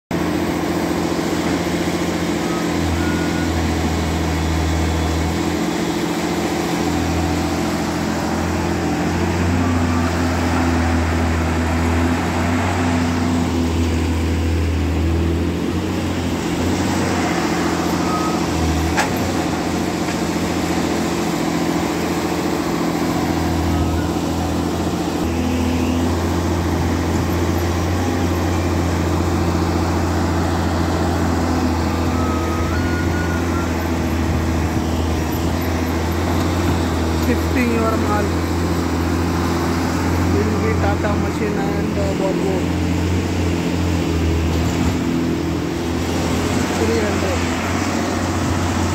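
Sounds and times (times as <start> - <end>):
excavator diesel engine: 0.1 - 48.9.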